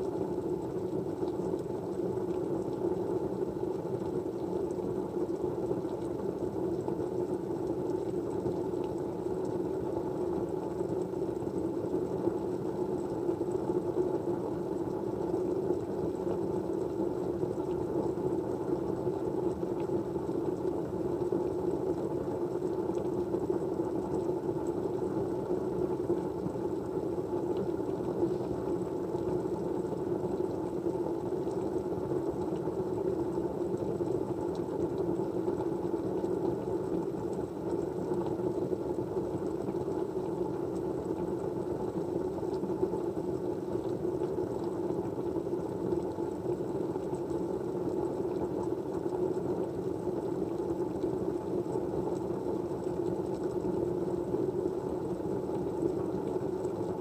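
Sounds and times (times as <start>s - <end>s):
muffled white-noise hum: 0.0s - 57.0s.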